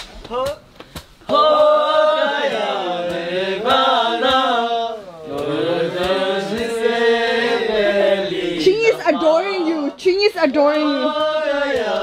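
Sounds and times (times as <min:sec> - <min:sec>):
soft beat: 0:00.0 - 0:12.0.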